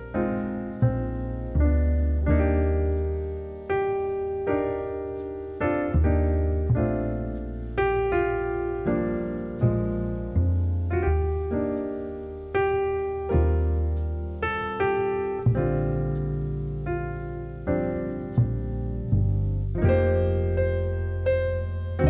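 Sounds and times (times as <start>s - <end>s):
deep bass notes: 0.0s - 22.0s
slow piano chords: 0.0s - 22.0s.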